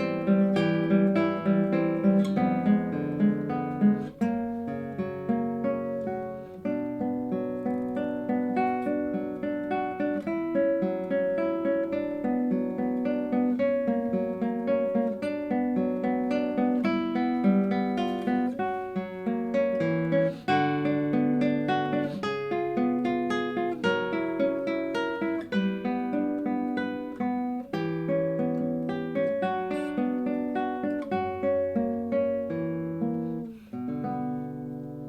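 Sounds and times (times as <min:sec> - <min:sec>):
classical guitar plucked notes: 0:00.0 - 0:35.0.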